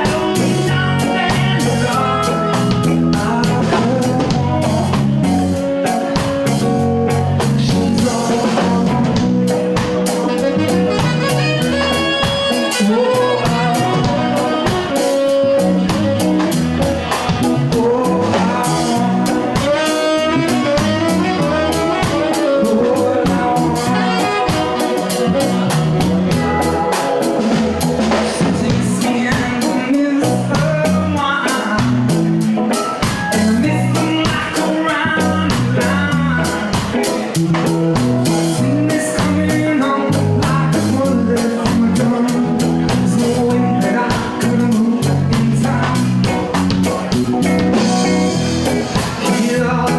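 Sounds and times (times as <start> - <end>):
drum kit beat: 0.0 - 49.9
live band playing reggae rock: 0.0 - 49.9.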